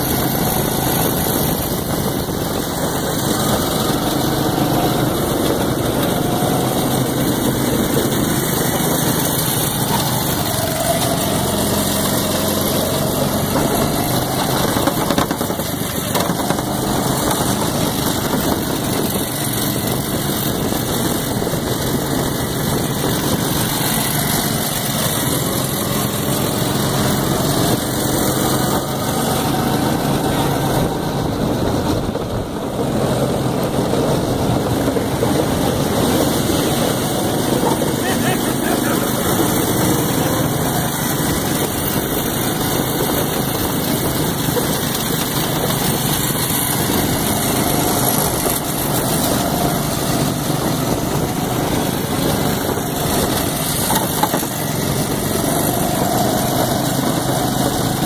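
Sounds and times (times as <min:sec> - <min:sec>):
go-kart engines running: 0:00.0 - 0:58.0
rushing noise: 0:00.0 - 0:58.0.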